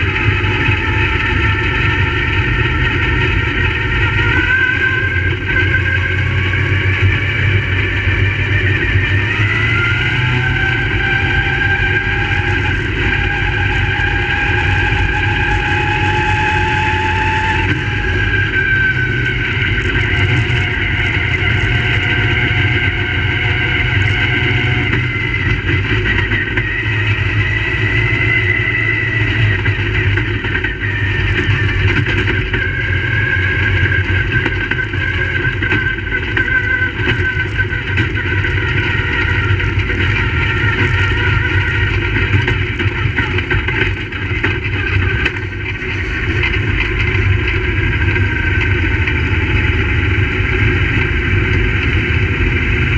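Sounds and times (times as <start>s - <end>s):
race car engines revving: 0.0s - 52.9s.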